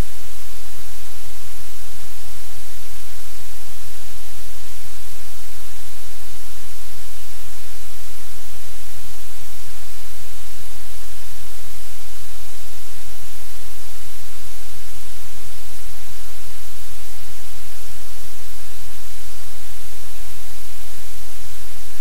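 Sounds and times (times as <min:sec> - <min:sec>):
low electrical hum: 0:00.0 - 0:22.0
static hiss: 0:00.0 - 0:22.0.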